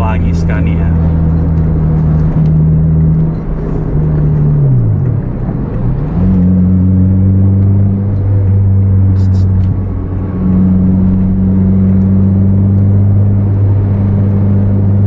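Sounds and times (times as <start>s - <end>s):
car engine: 0.0s - 15.0s
road noise inside car: 0.0s - 15.0s.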